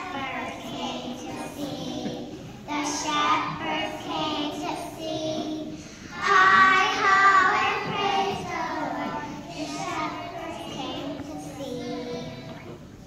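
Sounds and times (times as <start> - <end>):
children singing together: 0.0 - 12.9.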